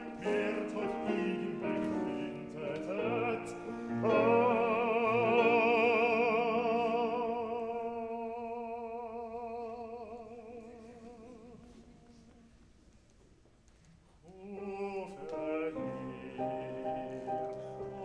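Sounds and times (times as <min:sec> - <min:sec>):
operatic singing with vibrato: 0:00.0 - 0:12.5, 0:14.2 - 0:18.0.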